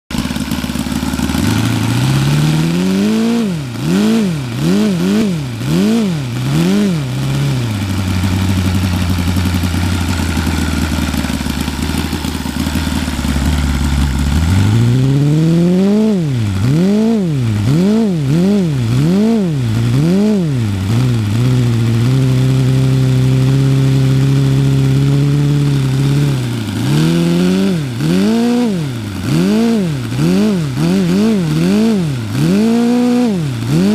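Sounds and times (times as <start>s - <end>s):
model engine revving: 0.1s - 33.9s.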